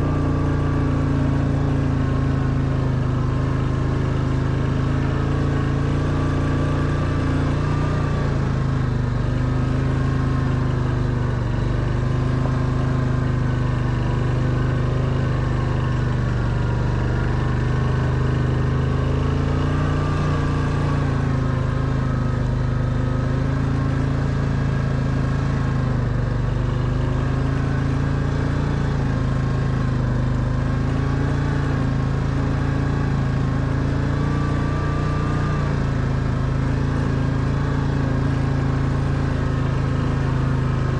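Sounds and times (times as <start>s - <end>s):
quad bike engine under load: 0.0s - 40.9s.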